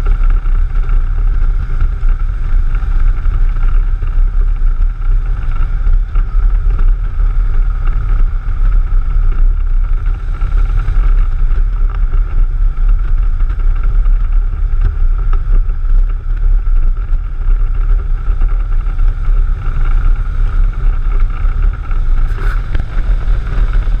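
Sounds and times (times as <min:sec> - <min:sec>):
motorcycle engine drone: 0:00.0 - 0:24.0
wind rush on microphone: 0:00.0 - 0:24.0.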